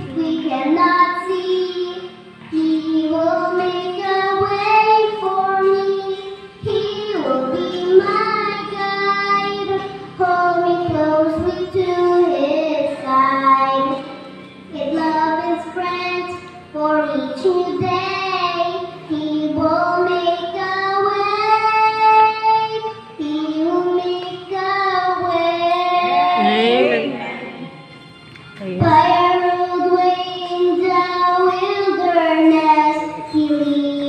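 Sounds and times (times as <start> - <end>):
girl singing: 0.0 - 27.8, 28.7 - 34.0
backing music: 0.0 - 34.0.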